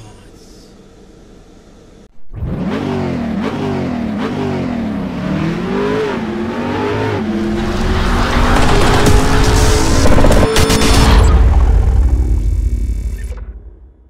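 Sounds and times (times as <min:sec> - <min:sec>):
car engine accelerating: 0:00.8 - 0:12.5.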